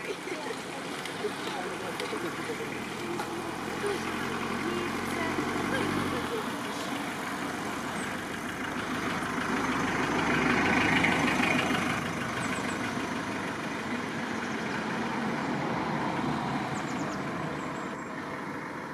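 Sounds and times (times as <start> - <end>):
motor vehicle running on road: 0.0 - 18.9.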